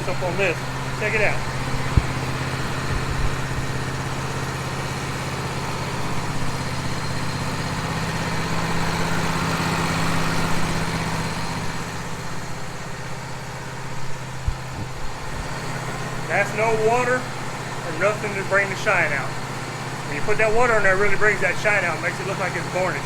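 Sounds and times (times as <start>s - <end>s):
sawmill engine idling: 0.0s - 23.0s.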